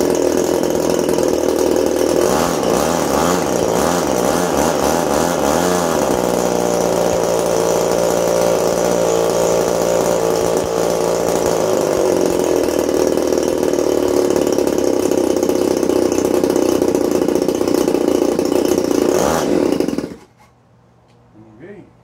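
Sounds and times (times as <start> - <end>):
two-stroke engine running: 0.0 - 20.3.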